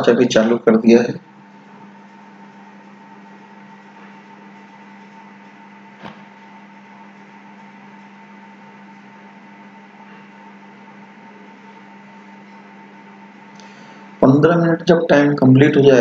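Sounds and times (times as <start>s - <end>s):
vacuum pump humming: 0.0s - 16.0s.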